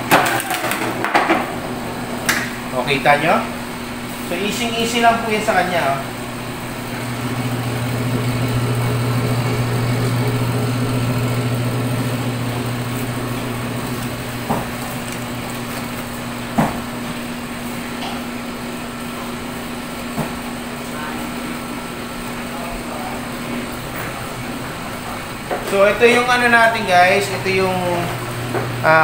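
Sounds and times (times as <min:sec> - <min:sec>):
electric motor humming: 0:01.4 - 0:29.0.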